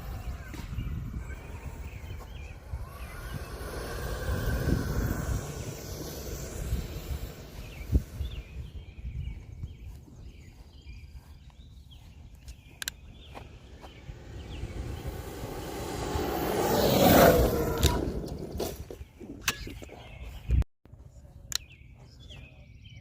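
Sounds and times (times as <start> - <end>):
wind buffeting microphone: 0.0 - 20.6
birds chirping: 0.0 - 23.0.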